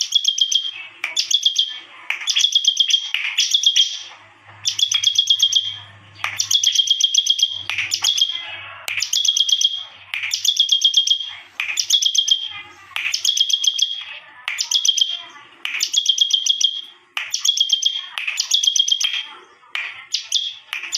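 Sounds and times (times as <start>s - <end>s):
bird singing rapid high chirps: 0.0s - 19.3s, 20.0s - 20.9s.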